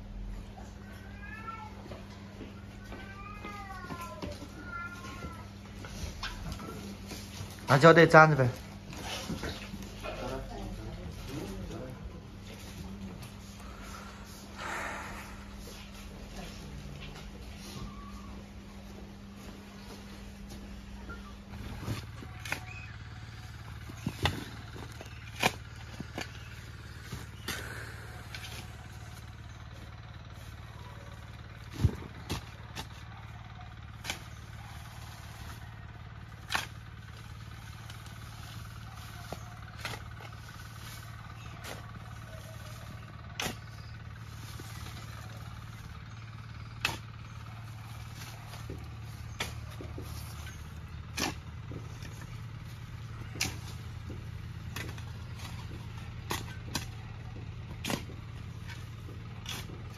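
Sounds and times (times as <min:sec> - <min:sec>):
low hum: 0:10.8 - 0:59.9.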